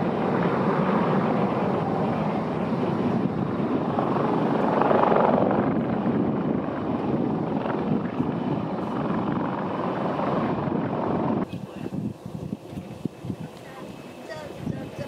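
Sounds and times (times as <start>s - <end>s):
distant jet engines rushing: 0.0s - 15.0s.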